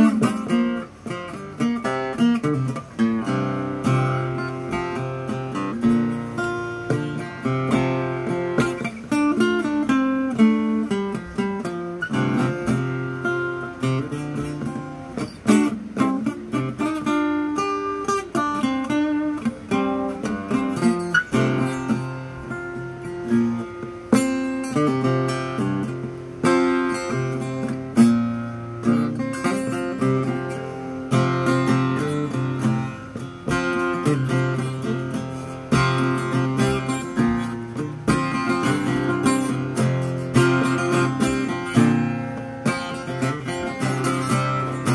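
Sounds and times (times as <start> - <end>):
acoustic guitar flatpicking: 0.0 - 44.9.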